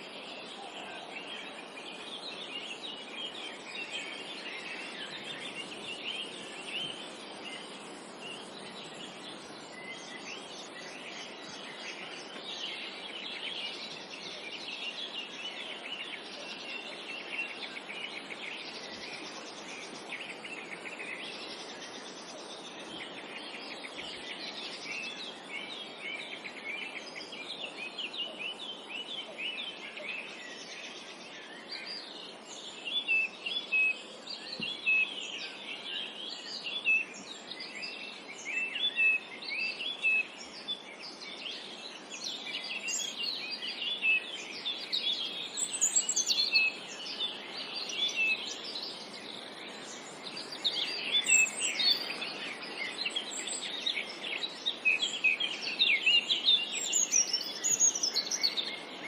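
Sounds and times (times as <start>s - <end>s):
background hiss: 0.0s - 59.0s
songbirds chirping and singing: 0.0s - 59.0s.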